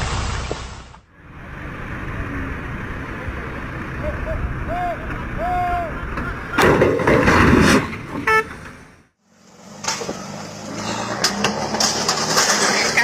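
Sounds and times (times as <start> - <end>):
rough burst of vehicle noise: 0.0 - 13.0
vehicle engine droning: 0.0 - 13.0.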